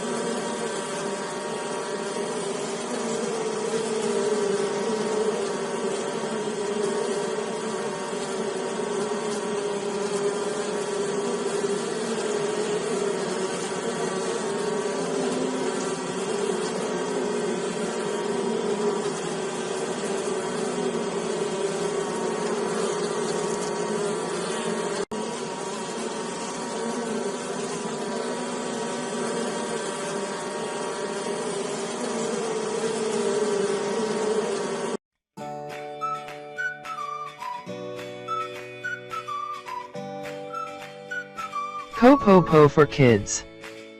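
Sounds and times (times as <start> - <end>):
bees buzzing: 0.0 - 35.0, 35.7 - 43.9.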